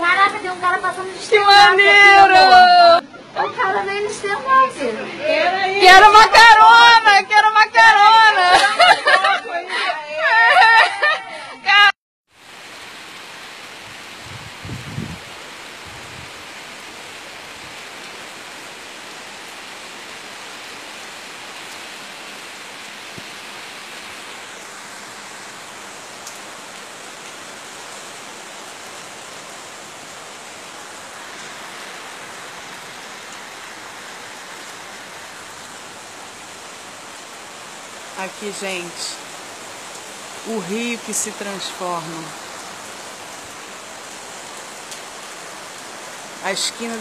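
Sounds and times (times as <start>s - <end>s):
heavy rain pouring: 0.0s - 47.0s
rushing floodwater: 0.0s - 47.0s.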